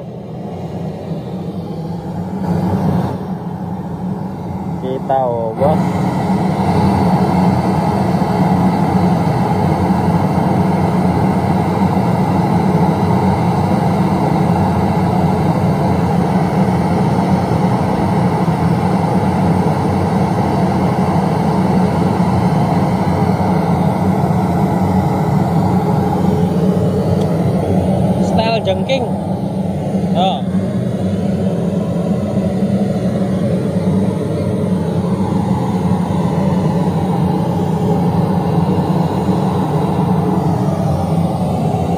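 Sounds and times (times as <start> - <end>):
loud test noise through speakers: 0.0 - 41.9.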